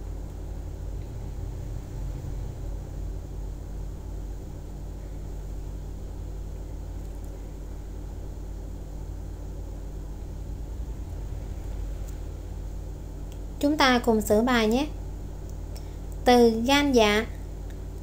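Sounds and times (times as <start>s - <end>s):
faint hum: 0.0s - 18.0s
low background rumble: 0.0s - 18.0s.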